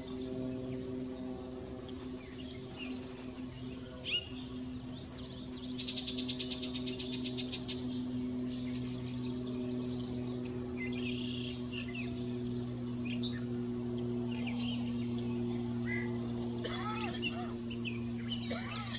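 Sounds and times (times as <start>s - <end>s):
bird singing: 0.0s - 18.9s
steady low hum: 0.0s - 18.9s.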